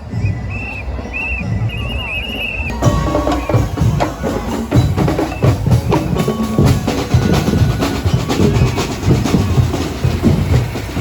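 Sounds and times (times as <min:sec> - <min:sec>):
percussion band drumming: 0:00.0 - 0:11.0.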